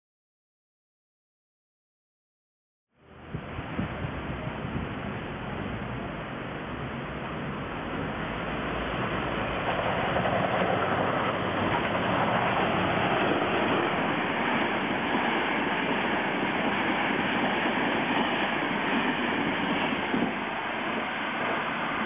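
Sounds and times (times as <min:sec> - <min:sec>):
train passing at speed: 0:03.0 - 0:22.0.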